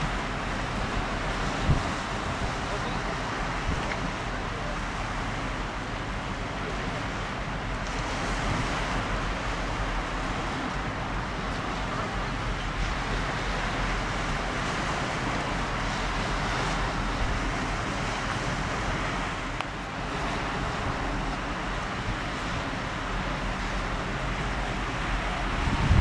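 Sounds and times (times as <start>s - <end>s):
choppy river water: 0.0s - 26.0s
wind buffeting the microphone: 0.0s - 26.0s.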